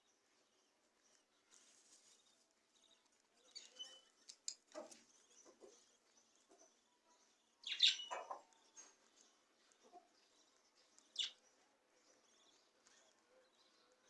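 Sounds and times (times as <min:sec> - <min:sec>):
budgies chirping: 0:02.0 - 0:14.0.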